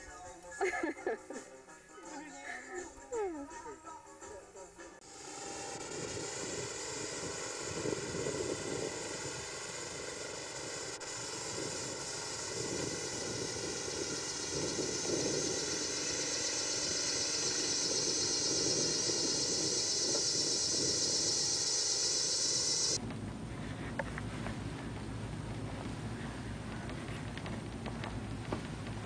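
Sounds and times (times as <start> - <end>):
faint hum: 4.3 - 29.0.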